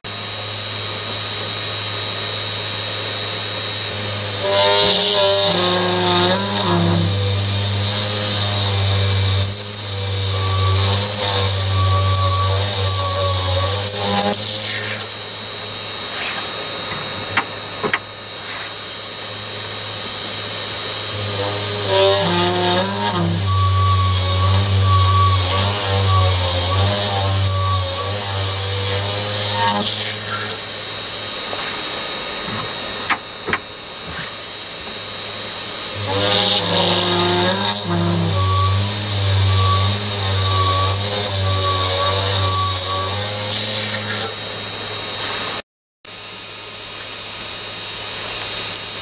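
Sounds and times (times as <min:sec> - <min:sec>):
motor high whine: 0:00.0 - 0:49.0
drill bit cutting metal: 0:00.1 - 0:18.4, 0:19.1 - 0:33.3, 0:35.3 - 0:45.6.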